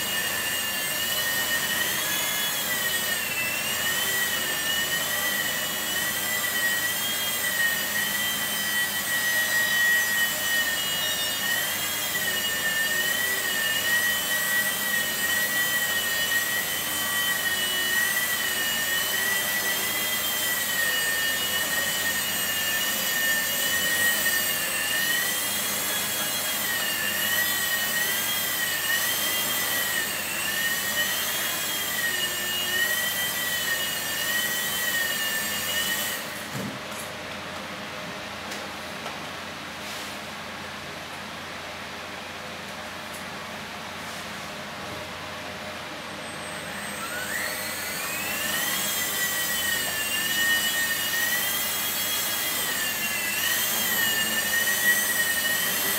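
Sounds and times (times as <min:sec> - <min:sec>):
toy helicopter motor whine: 0:00.0 - 0:36.6, 0:46.2 - 0:55.9.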